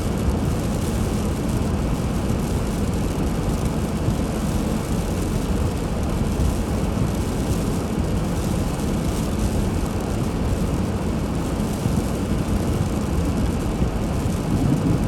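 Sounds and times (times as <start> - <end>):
car driving on snowy road: 0.1 - 15.0.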